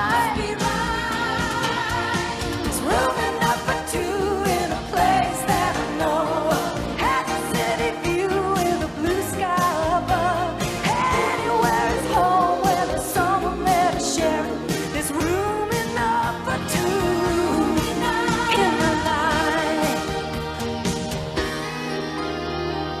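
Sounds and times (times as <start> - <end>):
band with drum beat: 0.0 - 21.8
pop song with lead vocal: 0.0 - 21.9.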